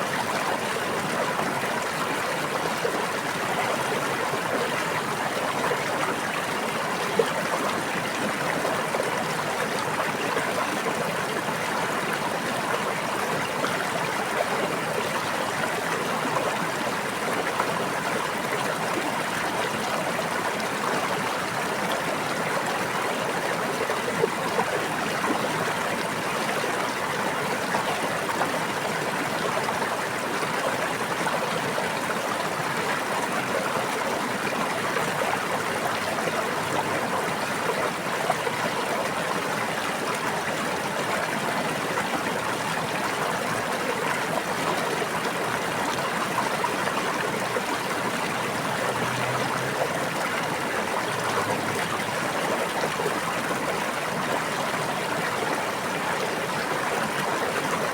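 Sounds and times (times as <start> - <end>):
brook babbling: 0.0 - 57.9.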